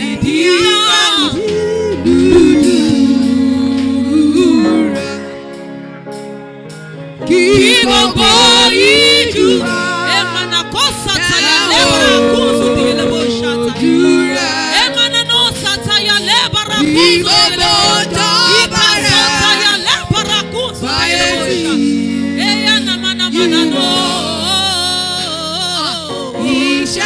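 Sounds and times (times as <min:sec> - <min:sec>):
gospel singing with vibrato: 0:00.0 - 0:06.1, 0:06.8 - 0:27.0
sustained chords: 0:00.0 - 0:27.0.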